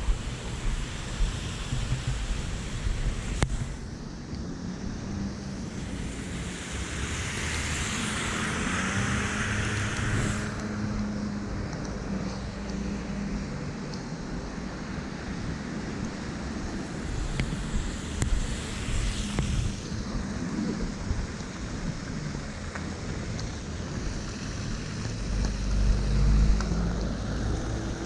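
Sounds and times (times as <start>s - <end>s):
low traffic rumble: 0.0s - 28.0s
tyres hissing on wet road: 0.0s - 28.0s.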